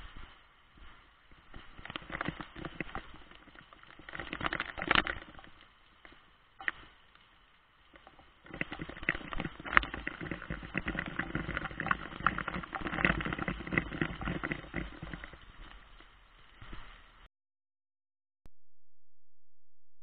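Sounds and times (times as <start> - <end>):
heavy rain pattering: 0.0 - 17.3.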